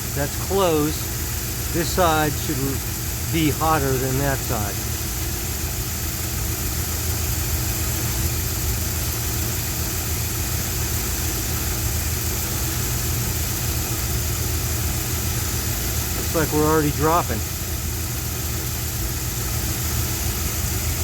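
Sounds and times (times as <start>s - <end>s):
pickup truck engine idling: 0.0s - 21.0s.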